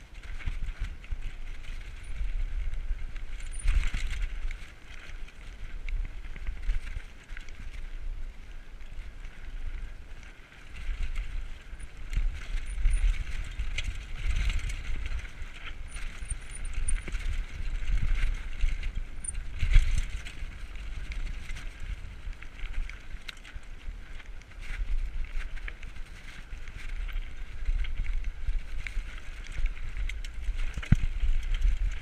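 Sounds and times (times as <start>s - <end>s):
bike rattling and knocking: 0.0s - 32.0s
bike tyres rumbling over stones: 0.0s - 32.0s.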